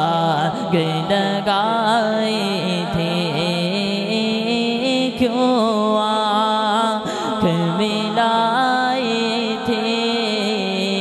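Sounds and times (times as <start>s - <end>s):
man singing through a microphone: 0.0s - 11.0s.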